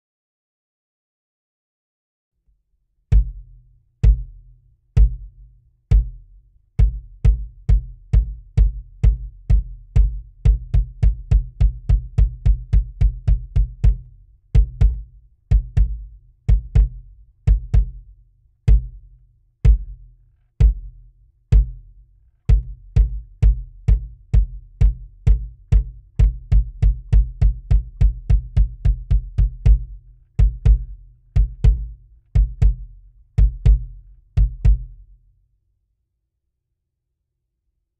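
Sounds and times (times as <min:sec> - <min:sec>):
bass drum kicks: 0:03.1 - 0:35.1.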